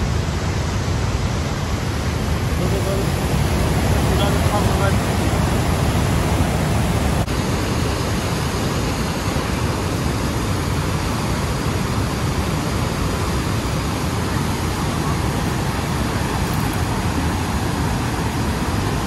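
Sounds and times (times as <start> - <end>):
rushing whitewater: 0.0 - 19.0.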